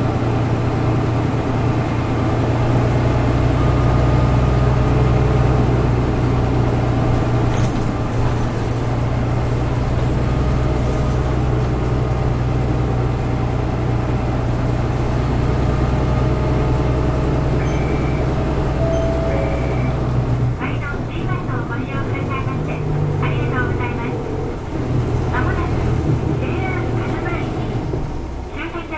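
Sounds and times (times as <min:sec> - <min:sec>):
bus engine and road noise hum: 0:00.0 - 0:28.9.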